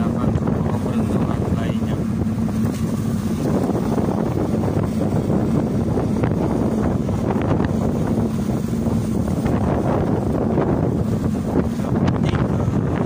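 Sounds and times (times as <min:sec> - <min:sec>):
boat engine running: 0:00.0 - 0:13.0
wind buffeting microphone: 0:00.0 - 0:13.0.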